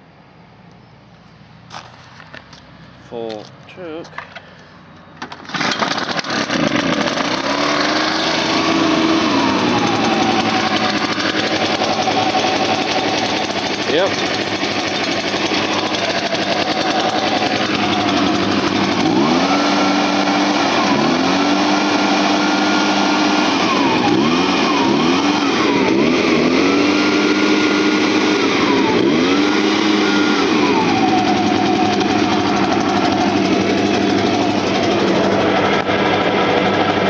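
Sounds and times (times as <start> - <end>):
leaf blower engine revving: 5.3 - 37.0.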